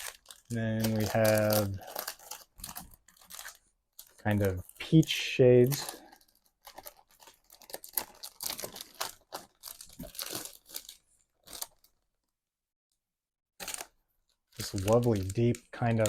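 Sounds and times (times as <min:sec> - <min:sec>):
cardstock rustling and crinkling: 0:00.0 - 0:12.3, 0:13.6 - 0:16.0.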